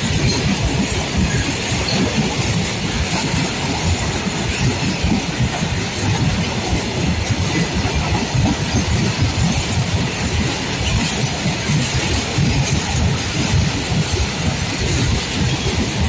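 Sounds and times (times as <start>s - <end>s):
train wheels rumbling over rails: 0.0s - 16.0s.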